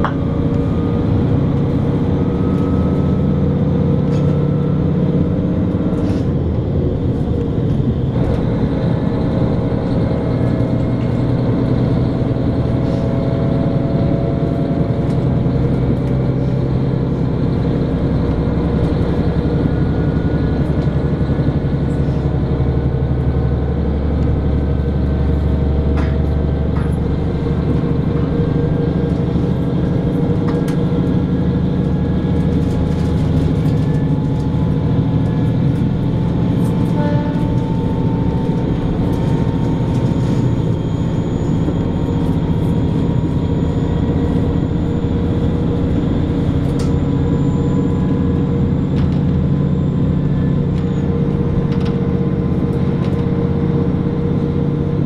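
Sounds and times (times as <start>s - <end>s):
diesel engine drone: 0.0s - 55.0s
wheels rumbling on rails: 0.0s - 55.0s.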